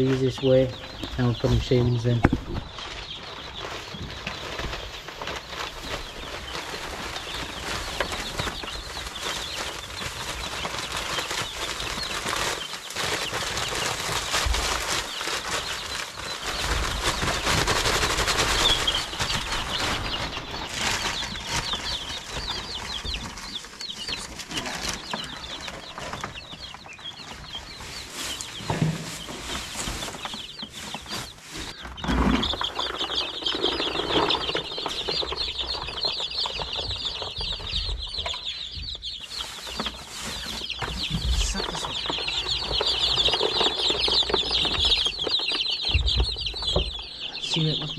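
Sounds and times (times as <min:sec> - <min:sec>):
wood shavings pouring: 0:00.0 - 0:26.6, 0:27.8 - 0:37.6, 0:39.4 - 0:47.9
baby chicks peeping: 0:00.0 - 0:47.9.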